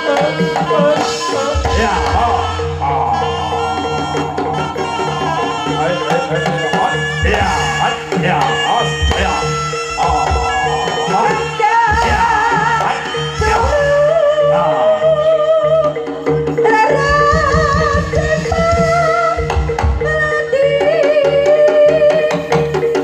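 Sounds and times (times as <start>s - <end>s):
drums and gongs beat: 0.0s - 23.0s
ornamented melody line: 0.0s - 23.0s
person singing: 0.0s - 23.0s.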